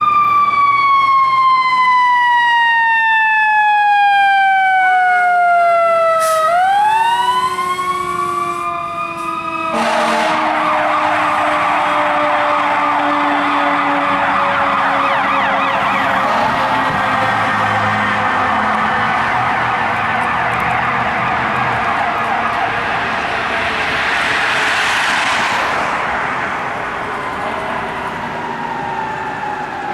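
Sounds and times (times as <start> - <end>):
ambulance siren warbling: 0.0 - 29.9
emergency vehicles passing: 0.0 - 29.9
fire truck siren wailing: 0.0 - 29.9.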